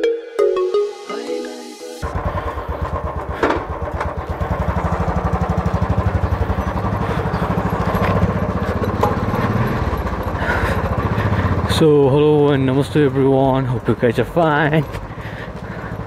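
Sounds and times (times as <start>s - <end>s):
motorcycle engine running: 2.0s - 16.0s.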